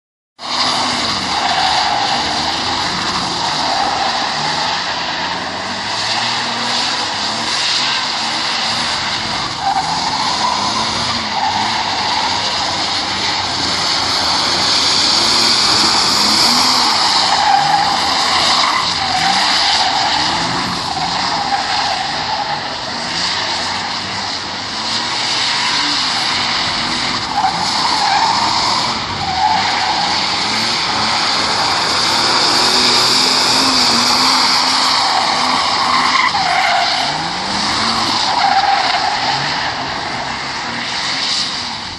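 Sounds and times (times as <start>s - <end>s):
car engine revving: 0.4s - 41.9s
tyres sliding on wet surface: 0.4s - 41.9s.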